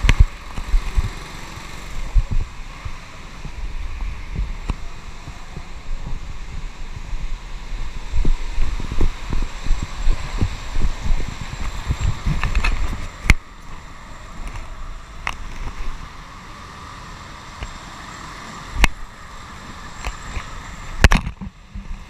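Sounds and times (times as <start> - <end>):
go-kart engine rushing: 0.0 - 22.0.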